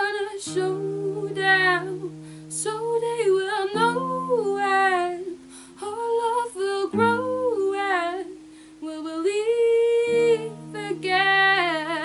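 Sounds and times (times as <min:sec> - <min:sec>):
acoustic guitar chords: 0:00.0 - 0:12.0
girl singing: 0:00.0 - 0:12.0.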